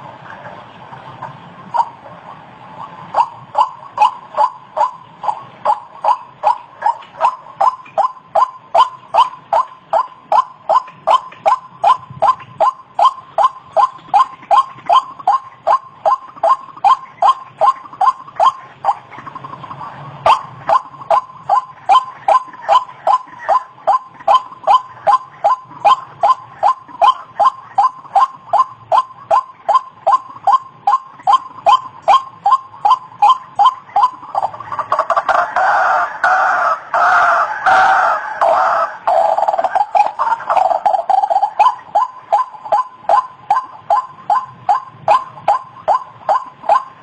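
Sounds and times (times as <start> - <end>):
bird repeated calling: 1.6 - 47.0.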